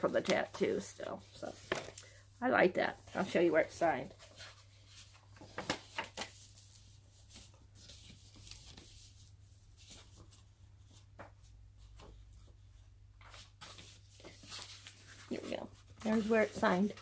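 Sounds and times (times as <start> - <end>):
book pages rustling and flicking: 0.0 - 2.1, 3.1 - 12.6, 13.2 - 17.0.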